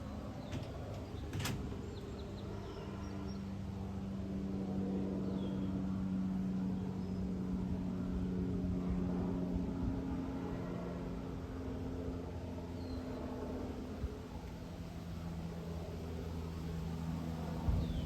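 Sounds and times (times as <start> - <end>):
propeller plane droning overhead: 0.0 - 18.0.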